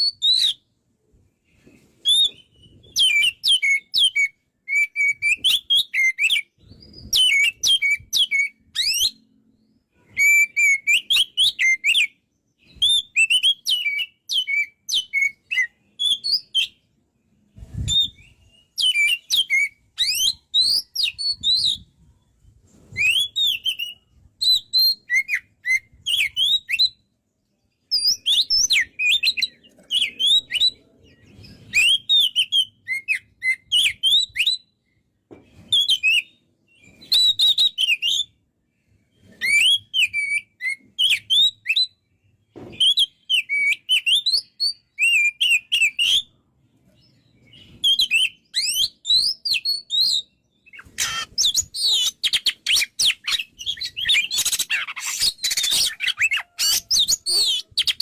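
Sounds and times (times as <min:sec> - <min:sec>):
songbird whistling varied notes: 0:00.0 - 0:00.6, 0:02.0 - 0:09.3, 0:10.0 - 0:16.8, 0:17.8 - 0:22.0, 0:22.9 - 0:27.1, 0:27.9 - 0:30.8, 0:31.6 - 0:35.0, 0:35.6 - 0:38.4, 0:39.2 - 0:42.1, 0:42.8 - 0:46.4, 0:47.4 - 0:58.0.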